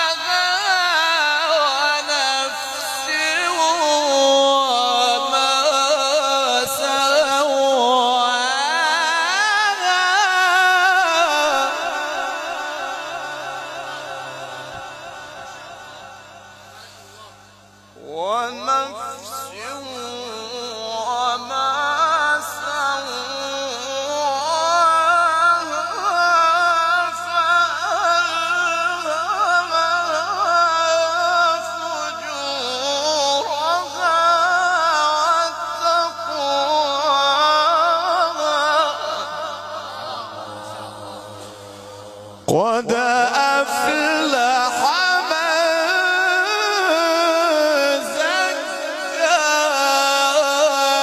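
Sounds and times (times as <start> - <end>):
man reciting melismatic chant: 0.0 - 51.0.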